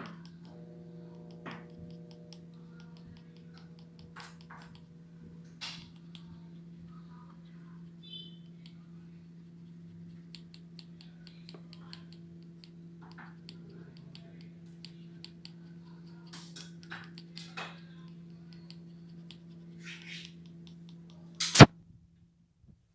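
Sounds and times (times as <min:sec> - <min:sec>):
steady low hum: 0:00.0 - 0:21.7
dog breathing fast: 0:00.2 - 0:21.7.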